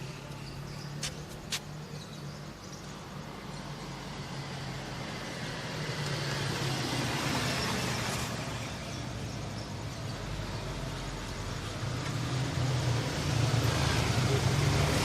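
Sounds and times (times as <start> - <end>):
passing traffic: 0.0 - 15.0.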